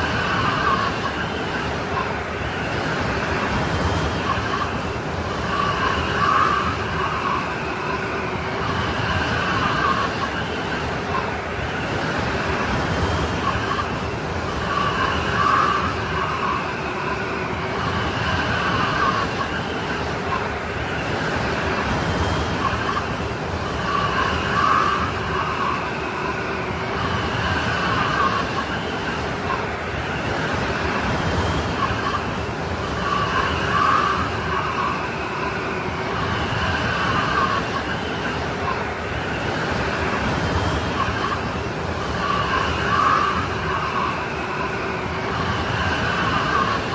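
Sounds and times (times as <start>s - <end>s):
howling snowstorm wind: 0.0s - 46.9s.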